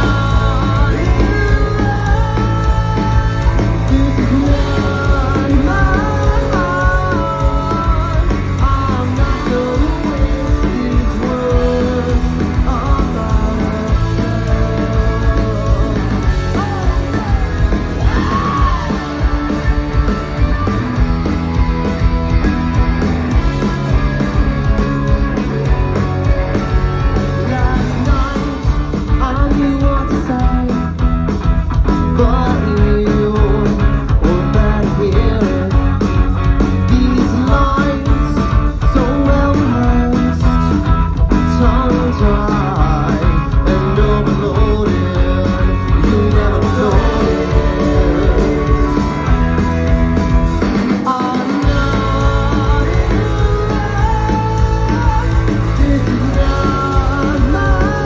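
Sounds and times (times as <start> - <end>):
person singing lead vocal: 0.0 - 31.2, 32.0 - 58.0
electric guitar: 0.0 - 58.0
rock band playing live: 0.0 - 58.0.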